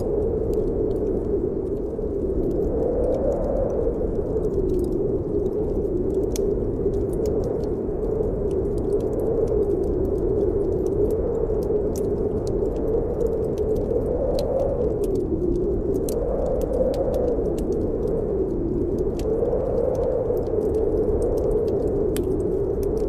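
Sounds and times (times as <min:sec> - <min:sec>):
wind howling: 0:00.0 - 0:23.0
wood fire crackling: 0:00.0 - 0:23.0.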